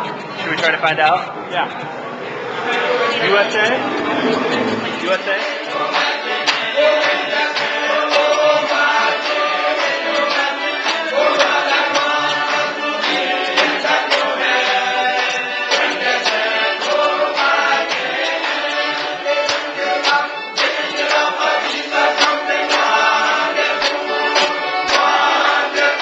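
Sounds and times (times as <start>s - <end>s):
crowd singing together: 1.8s - 26.0s
steady beat of sharp strokes: 1.9s - 26.0s.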